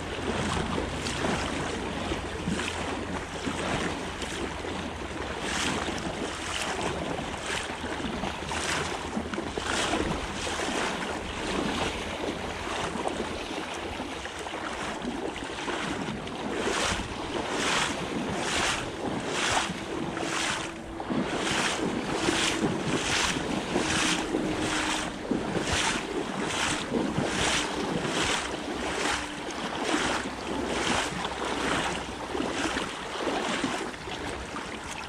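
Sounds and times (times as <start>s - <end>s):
footsteps splashing through water: 0.0s - 35.0s
river rushing: 0.0s - 35.0s.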